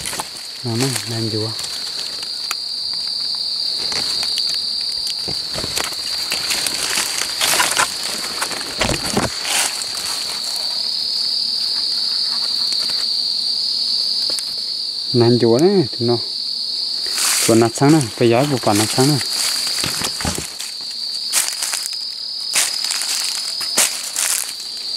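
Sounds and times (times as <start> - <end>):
rustling of dry leaf litter: 0.0 - 13.2, 16.8 - 24.9
night insects chorus: 0.0 - 24.9.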